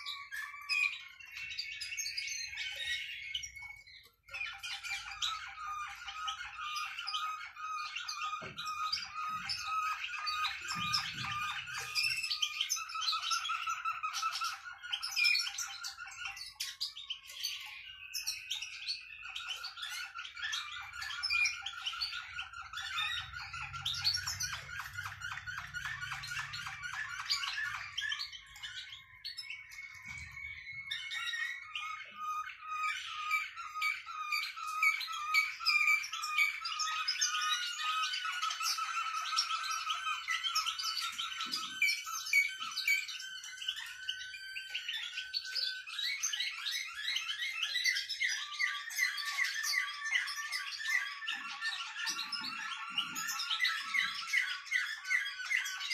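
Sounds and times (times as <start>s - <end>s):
songbird singing trills: 0.0s - 55.9s.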